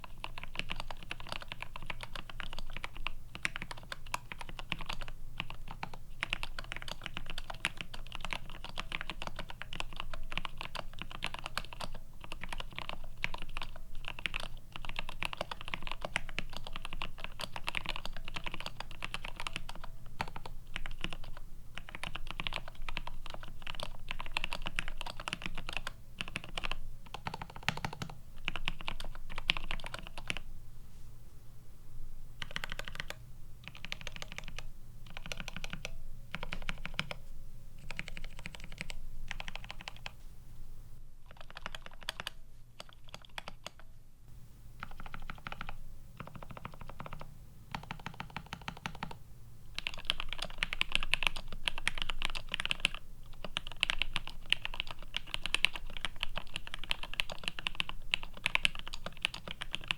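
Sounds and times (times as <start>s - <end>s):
mechanical keyboard typing: 0.0s - 30.4s, 32.4s - 37.2s, 37.8s - 40.2s, 41.3s - 43.8s, 44.8s - 49.2s, 49.8s - 59.9s.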